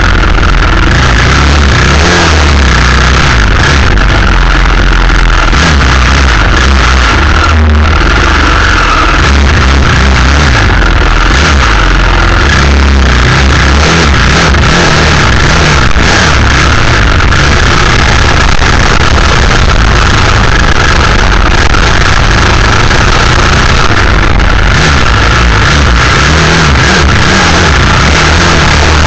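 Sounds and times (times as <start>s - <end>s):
vehicle engine running hard: 0.0s - 29.0s.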